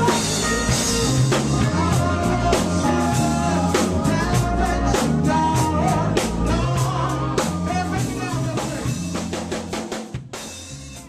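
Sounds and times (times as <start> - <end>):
drum kit beat: 0.0 - 11.0
funk band playing: 0.0 - 11.0.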